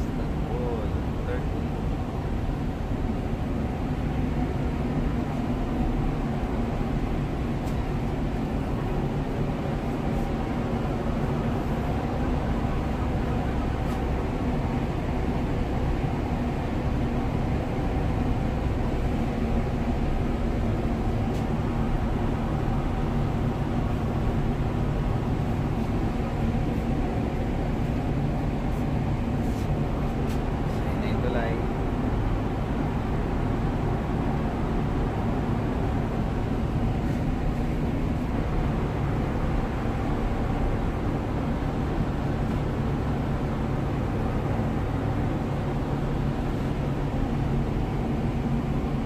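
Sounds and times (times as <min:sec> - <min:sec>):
ship engine drone: 0:00.0 - 0:49.0
water rushing along hull: 0:00.0 - 0:49.0.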